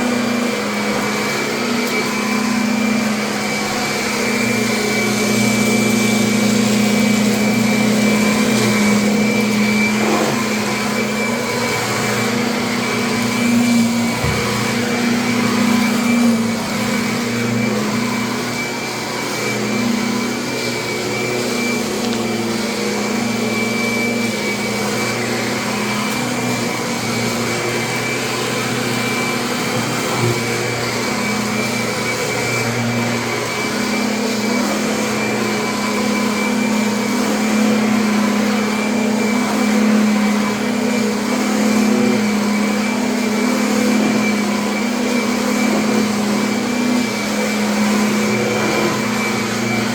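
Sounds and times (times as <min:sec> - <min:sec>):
vacuum cleaner motor humming: 0:00.0 - 0:49.9.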